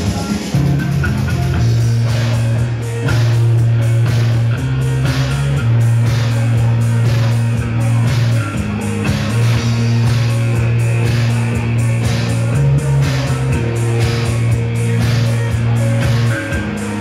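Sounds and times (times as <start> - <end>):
drum kit: 0.0 - 17.0
electric bass guitar: 0.0 - 17.0
keyboard: 0.0 - 17.0.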